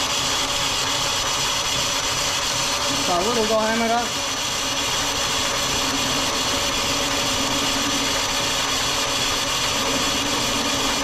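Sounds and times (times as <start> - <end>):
metal lathe whirring: 0.0 - 11.0.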